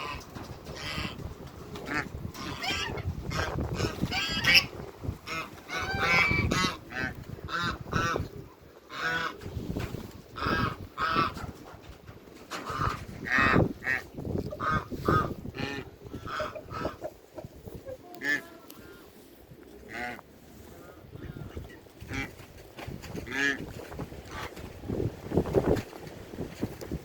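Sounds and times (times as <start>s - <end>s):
ducks and geese honking and quacking: 0.0s - 9.5s, 10.2s - 22.5s, 23.1s - 24.7s.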